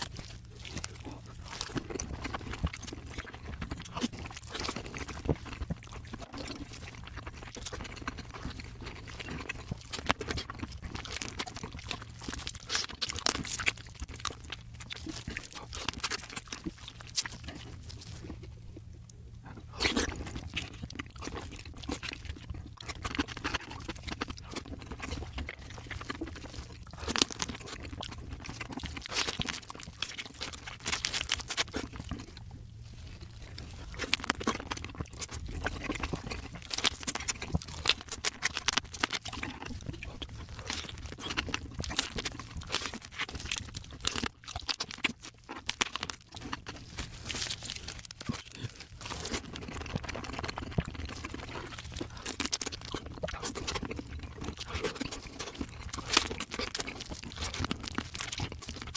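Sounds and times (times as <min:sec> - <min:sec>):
crunching and chewing crab shell: 0:00.0 - 0:58.9.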